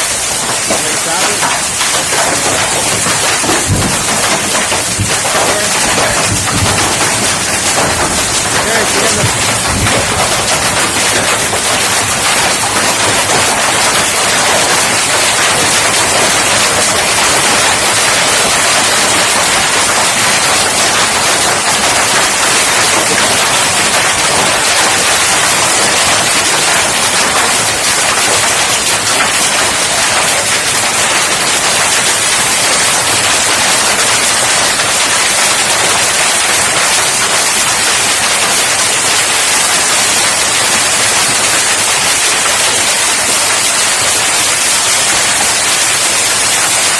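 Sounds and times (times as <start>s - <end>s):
heavy rain and hail pelting: 0.0s - 46.9s.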